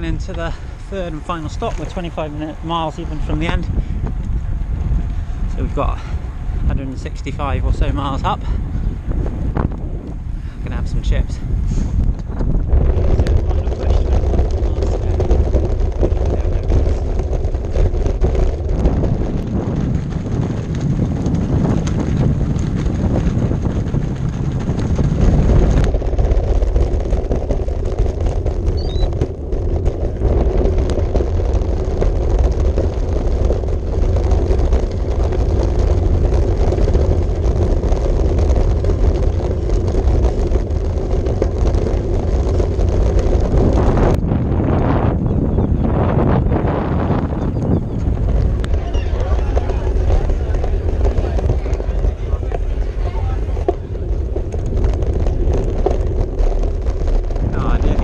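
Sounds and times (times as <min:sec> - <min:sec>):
bicycle rolling: 0:00.0 - 0:58.0
wind rushing over microphone: 0:00.0 - 0:58.0.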